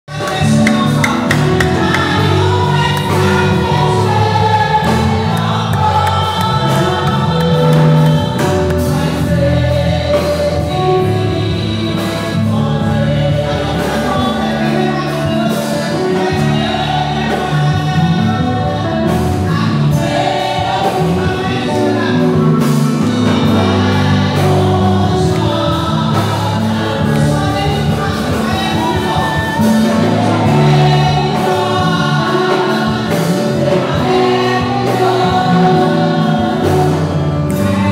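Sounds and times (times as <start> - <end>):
bass notes: 0.1 - 37.9
choir voices: 0.1 - 37.9
women singing through loudspeakers: 0.1 - 37.9.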